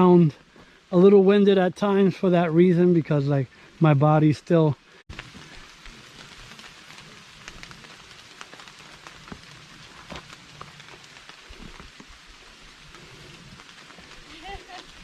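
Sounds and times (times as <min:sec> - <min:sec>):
rain hissing: 0:00.0 - 0:15.0
raindrops ticking close by: 0:00.0 - 0:15.0.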